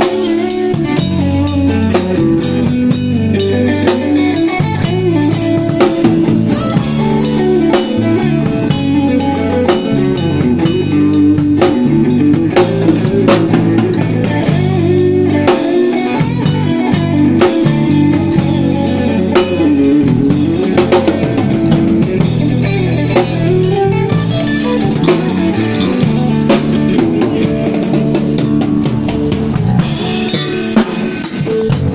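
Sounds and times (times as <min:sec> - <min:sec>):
drum kit: 0:00.0 - 0:31.9
electric guitar bending lead notes: 0:00.0 - 0:31.9.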